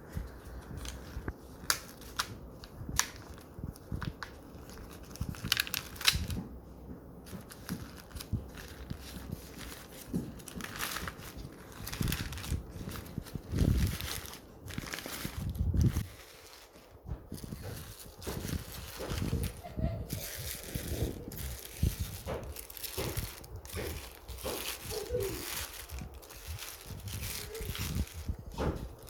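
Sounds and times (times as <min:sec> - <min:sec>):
food packaging crinkling: 0:00.1 - 0:06.4, 0:07.2 - 0:29.0.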